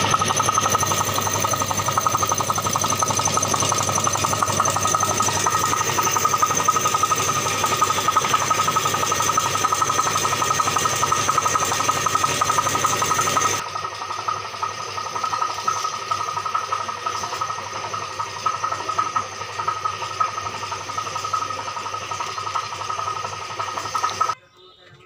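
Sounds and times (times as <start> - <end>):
piston air compressor running: 0.0 - 24.4.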